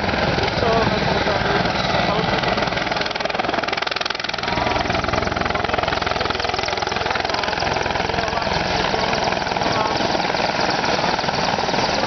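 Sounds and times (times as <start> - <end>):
helicopter rotor chopping: 0.0 - 12.0
helicopter turbines: 0.0 - 12.0.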